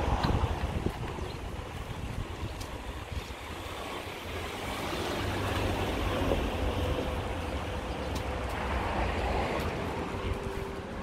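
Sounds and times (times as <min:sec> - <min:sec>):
street noise rumble and hiss: 0:00.0 - 0:11.0.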